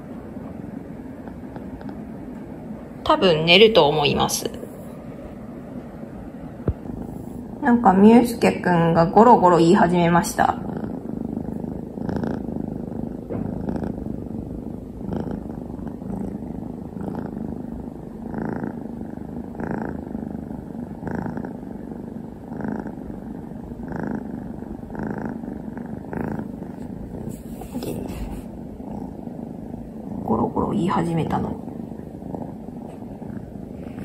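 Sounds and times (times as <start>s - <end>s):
kitten purring: 0.0s - 34.0s.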